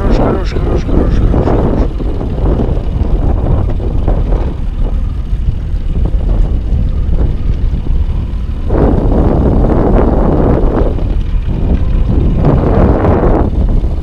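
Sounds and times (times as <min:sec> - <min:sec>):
outboard motor running: 0:00.0 - 0:14.0
wind on microphone: 0:00.0 - 0:14.0.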